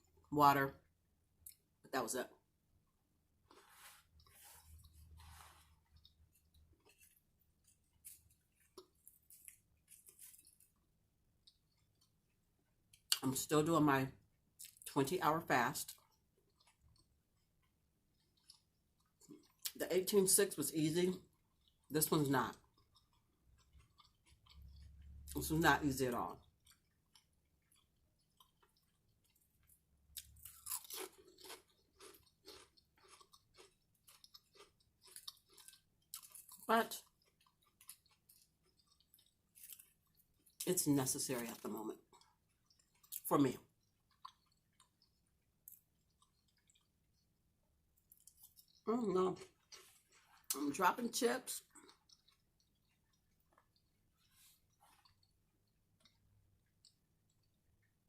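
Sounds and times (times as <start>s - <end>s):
chewing food: 0.0s - 1.8s, 2.4s - 58.0s.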